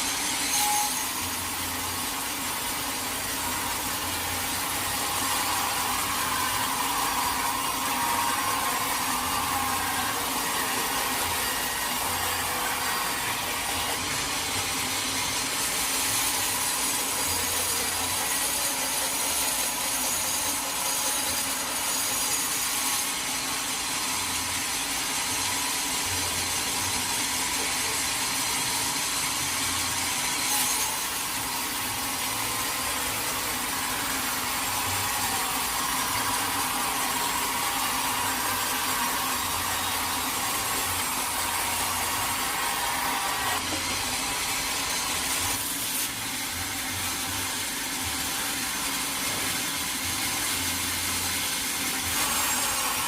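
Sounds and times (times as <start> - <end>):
saw cutting through wood: 0.0 - 53.0.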